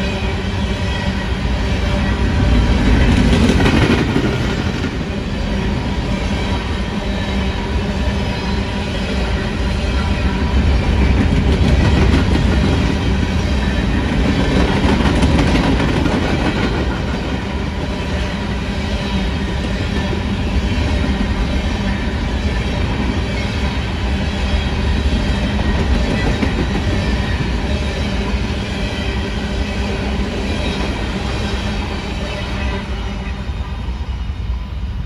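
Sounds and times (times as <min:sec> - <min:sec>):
steel train wheels on rails: 0:00.0 - 0:35.0.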